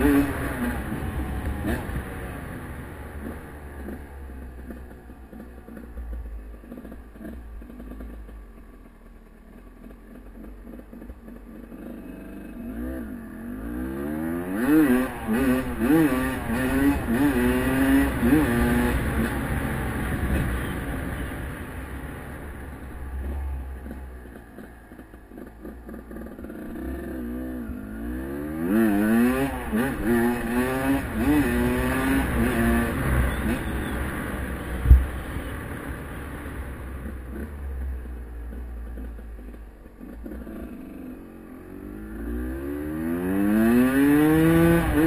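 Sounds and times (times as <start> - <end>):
two-stroke engine accelerating: 0.0 - 45.0.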